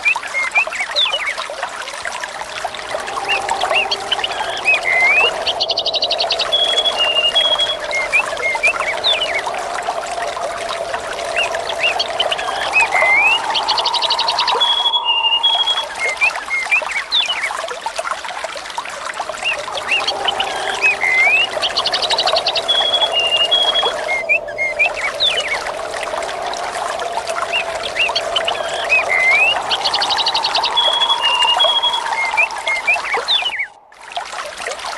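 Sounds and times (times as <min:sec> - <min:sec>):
flowing water: 0:00.0 - 0:34.9
birds chirping and trilling: 0:02.0 - 0:17.5, 0:19.3 - 0:33.9.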